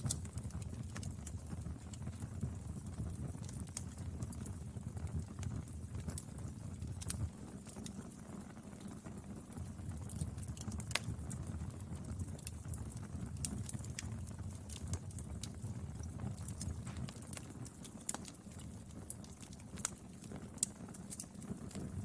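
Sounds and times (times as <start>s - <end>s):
burning wood crackling and popping: 0.0s - 22.0s
low rumble of flames: 0.0s - 22.0s.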